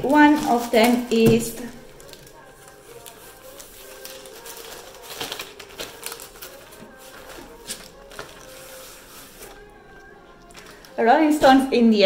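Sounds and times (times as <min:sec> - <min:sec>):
faint background music: 0:00.0 - 0:12.0
magazine packaging rustling: 0:00.1 - 0:11.0.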